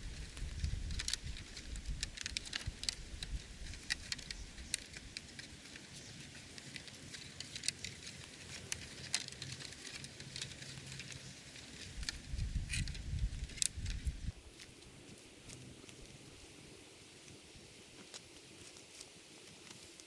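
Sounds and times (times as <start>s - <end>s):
light crackles and clicks: 0.0s - 16.3s, 18.0s - 20.0s.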